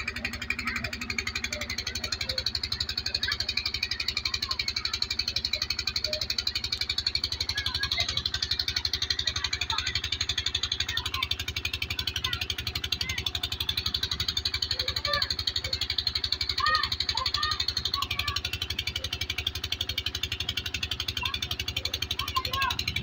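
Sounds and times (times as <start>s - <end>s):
pump engine chugging: 0.0s - 23.0s.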